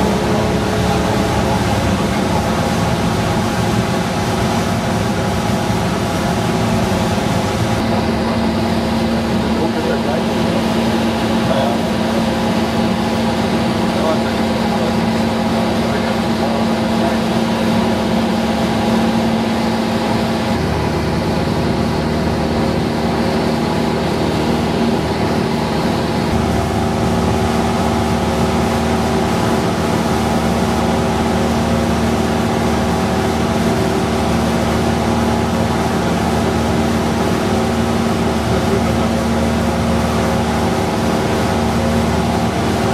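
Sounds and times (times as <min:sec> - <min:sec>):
propeller engine droning: 0:00.0 - 0:42.9.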